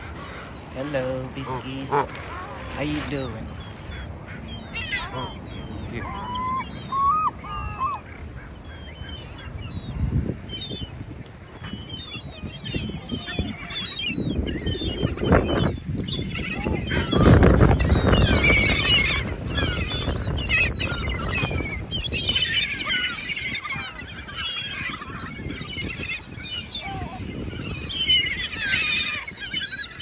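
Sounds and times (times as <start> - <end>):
geese and ducks calling: 0.0 - 10.0, 10.6 - 30.0.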